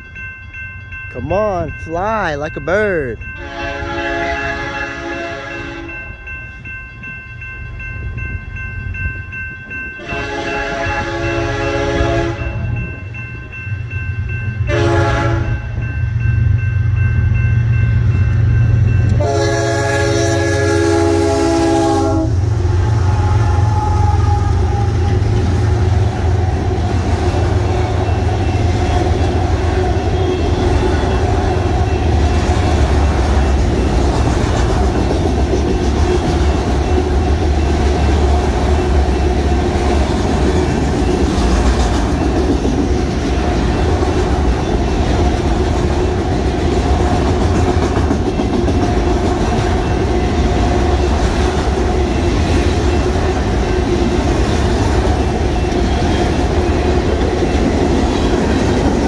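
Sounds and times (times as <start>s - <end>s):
diesel locomotives passing: 0.0s - 59.0s
train cars rumbling and clattering: 0.0s - 59.0s.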